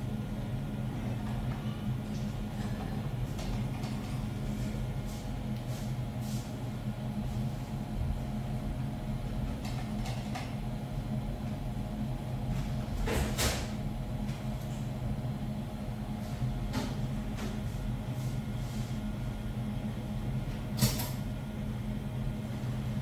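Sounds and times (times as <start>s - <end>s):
machine electrical hum: 0.0s - 23.0s.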